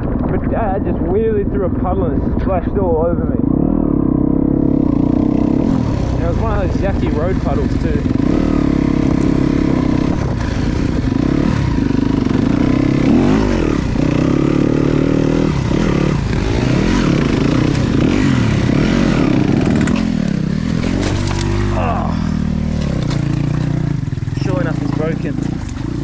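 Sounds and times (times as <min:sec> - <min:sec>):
dirt bike motor revving: 0:01.6 - 0:26.0.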